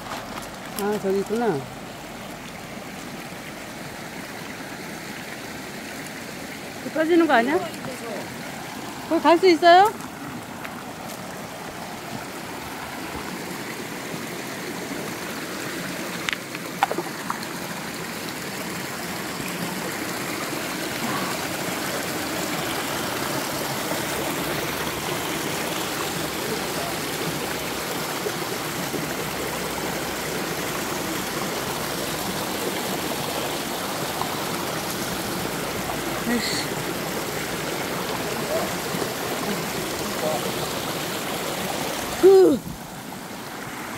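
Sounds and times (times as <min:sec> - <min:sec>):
stream running over rocks: 0:00.0 - 0:43.9.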